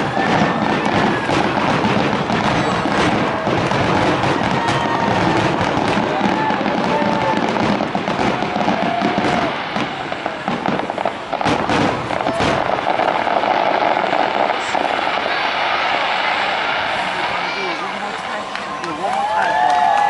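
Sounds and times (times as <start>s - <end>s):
fireworks bursts and crackling: 0.0s - 20.0s.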